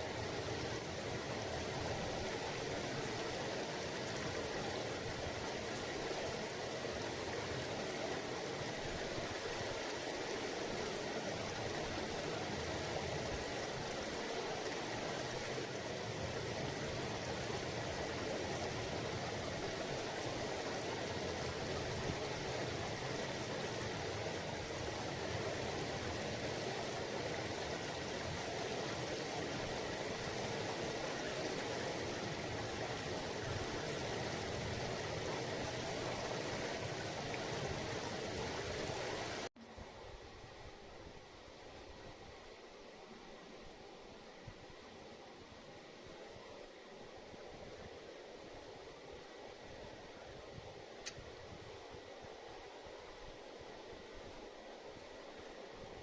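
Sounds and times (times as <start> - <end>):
river babbling: 0.0 - 56.0.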